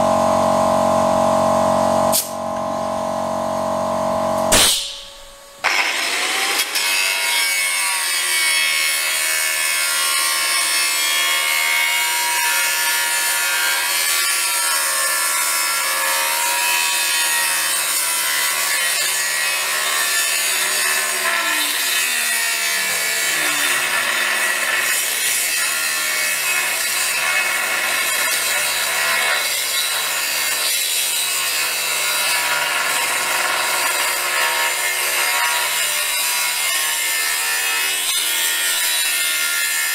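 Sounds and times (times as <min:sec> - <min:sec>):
chop saw grinding through metal: 0:04.4 - 0:39.9.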